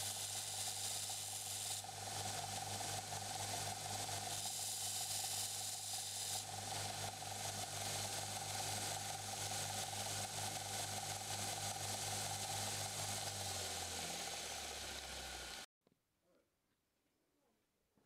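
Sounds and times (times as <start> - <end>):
grinder motor hum: 0.0 - 15.7
sander belt hiss: 0.0 - 15.7.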